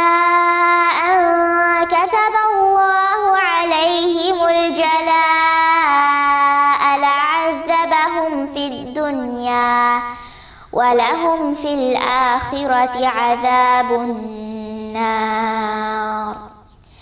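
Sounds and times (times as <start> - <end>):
girl chanting melodically: 0.0 - 17.0.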